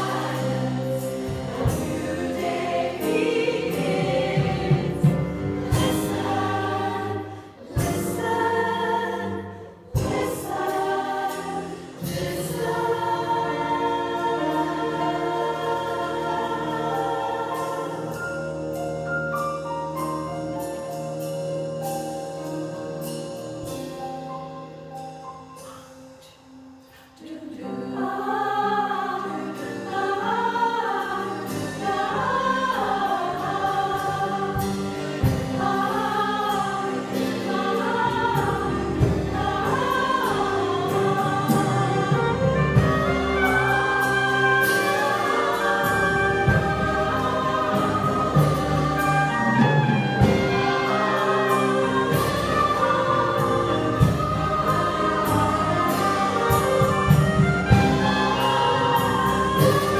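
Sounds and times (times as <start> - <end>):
mixed choir singing: 0.0 - 19.1, 27.1 - 59.9
instrumental accompaniment: 0.0 - 27.0, 28.0 - 59.9.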